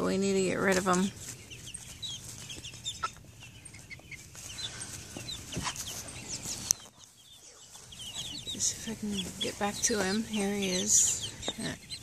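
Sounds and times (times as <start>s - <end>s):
chickens peeping and clucking: 0.0s - 12.0s.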